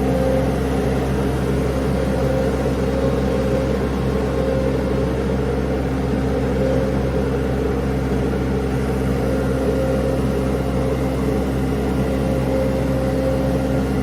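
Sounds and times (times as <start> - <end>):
small engine droning: 0.0 - 14.0.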